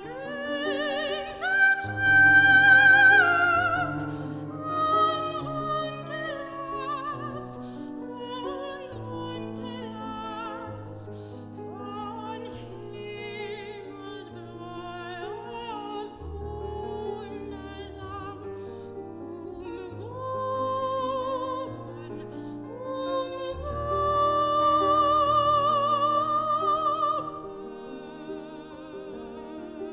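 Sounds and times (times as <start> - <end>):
operatic soprano singing: 0.0 - 29.9
piano accompaniment: 0.0 - 29.9.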